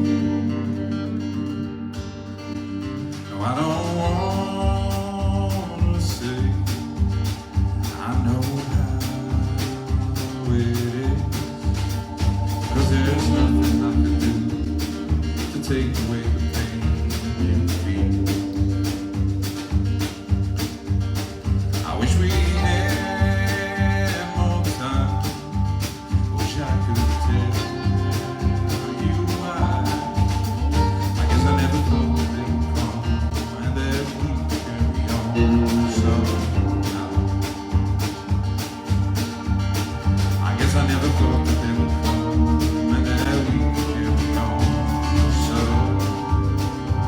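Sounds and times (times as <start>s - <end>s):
country rock band playing live: 0.0s - 47.0s.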